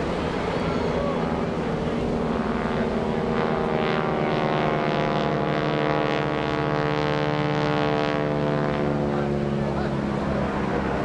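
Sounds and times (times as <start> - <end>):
radial aircraft engines droning: 0.0 - 11.0.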